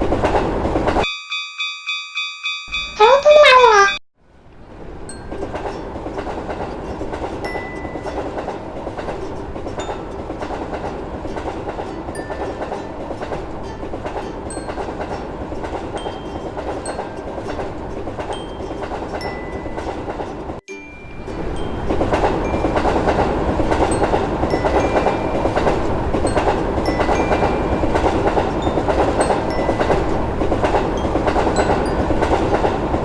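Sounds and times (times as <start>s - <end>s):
train wheels rumbling on rails: 0.0s - 1.0s, 4.6s - 20.6s, 21.2s - 33.0s.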